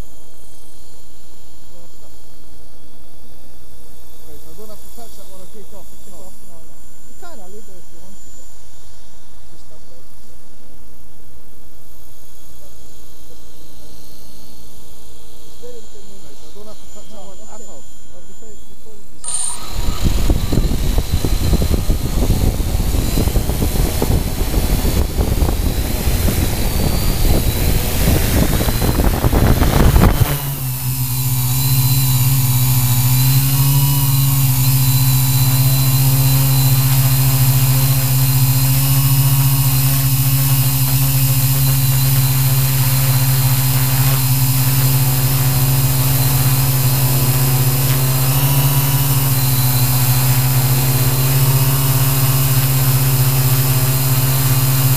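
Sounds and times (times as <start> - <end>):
drone propellers: 0.0 - 54.9.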